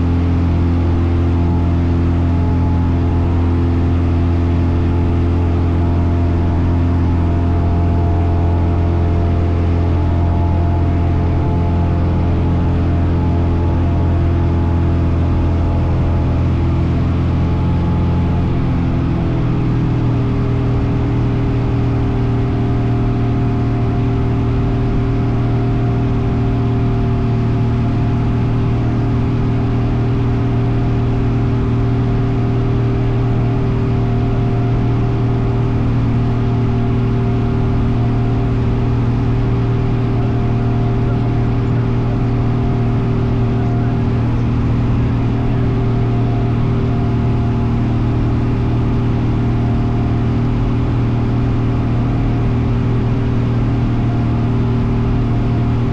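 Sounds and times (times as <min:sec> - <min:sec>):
propeller aircraft engine droning: 0:00.0 - 0:55.9.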